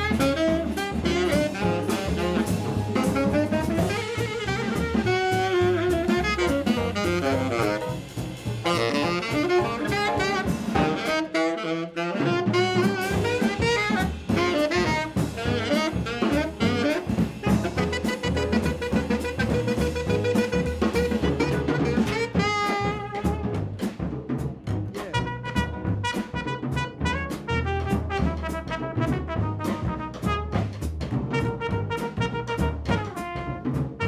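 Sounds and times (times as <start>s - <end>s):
upright bass: 0.0s - 11.3s, 12.2s - 34.0s
tenor saxophone: 0.0s - 23.7s, 25.0s - 30.7s
drum kit: 0.0s - 34.0s.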